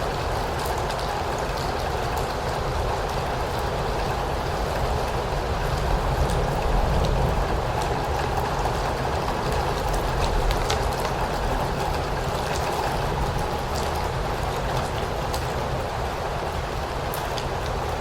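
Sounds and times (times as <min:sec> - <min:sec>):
steady rainfall: 0:00.0 - 0:18.0.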